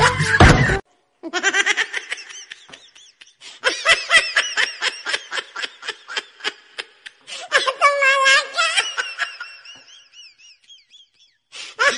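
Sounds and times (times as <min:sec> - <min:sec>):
high-pitched laughter: 0:00.0 - 0:11.9.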